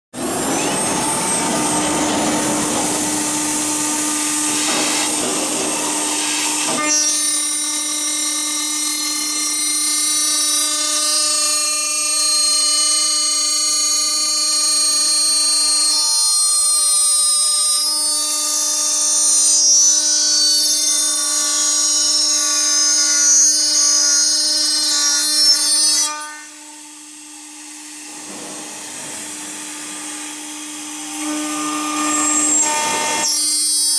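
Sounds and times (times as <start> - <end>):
machine spindle whine cutting metal: 0.2 - 33.9.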